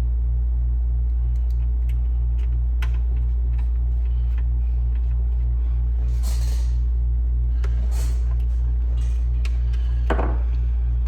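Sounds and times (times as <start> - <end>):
loud throbbing low hum: 0.0 - 11.0.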